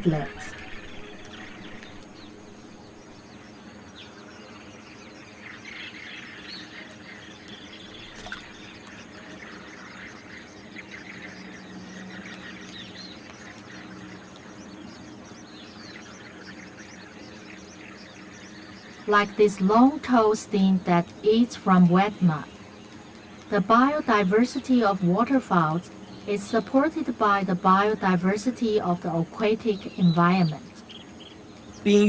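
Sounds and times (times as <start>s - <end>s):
birds chirping: 0.0s - 32.0s
low hum: 0.0s - 32.0s.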